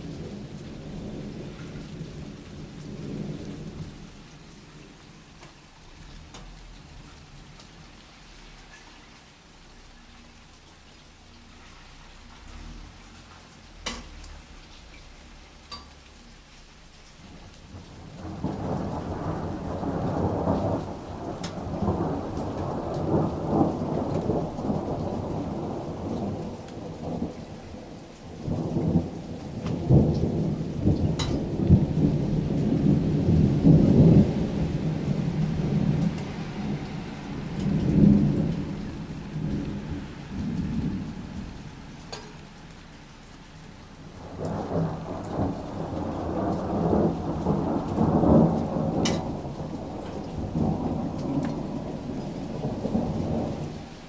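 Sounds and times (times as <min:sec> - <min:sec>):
deep thunder rumbling: 0:00.0 - 0:08.2, 0:17.2 - 0:42.9, 0:43.9 - 0:54.0
steady rain: 0:00.0 - 0:54.0.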